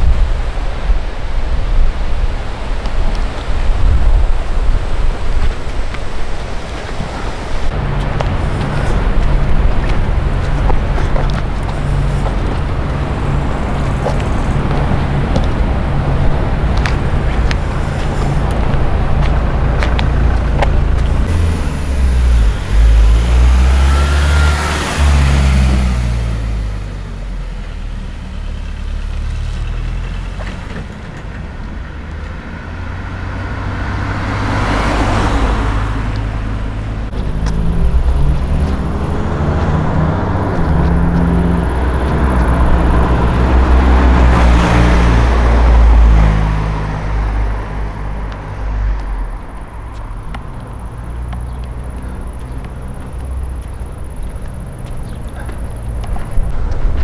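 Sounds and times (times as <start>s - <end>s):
vehicles passing by: 0.0s - 57.0s.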